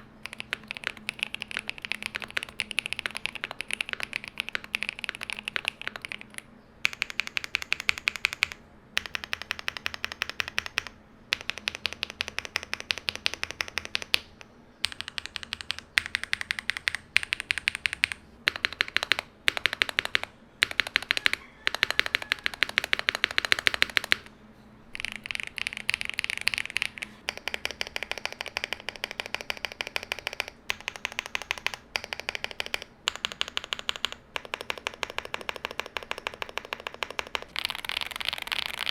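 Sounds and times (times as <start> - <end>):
mechanical keyboard typing: 0.0 - 24.3, 25.0 - 38.9.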